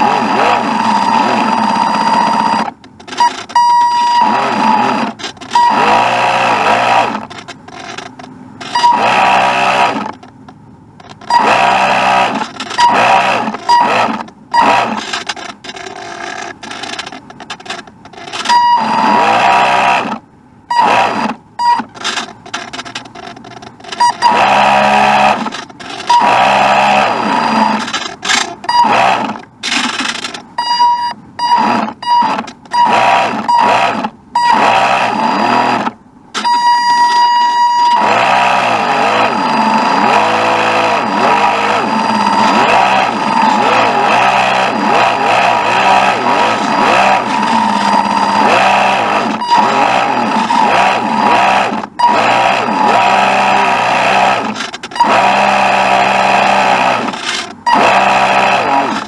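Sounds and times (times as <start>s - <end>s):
electronic buzzing and whining: 0.0s - 10.3s, 11.0s - 59.0s.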